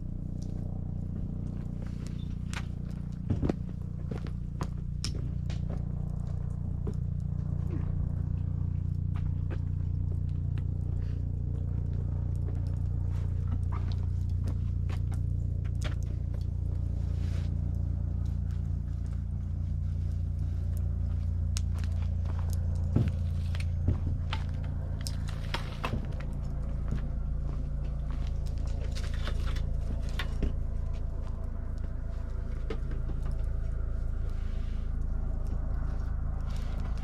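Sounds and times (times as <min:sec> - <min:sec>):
campfire crackling: 0:00.0 - 0:37.0
low rumble: 0:00.0 - 0:37.0.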